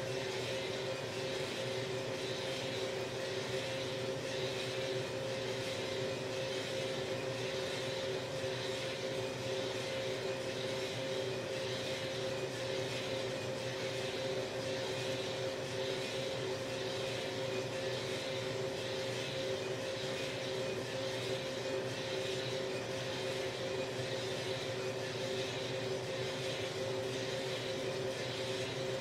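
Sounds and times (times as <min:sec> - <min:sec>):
coffee roaster motor hum: 0:00.0 - 0:29.0.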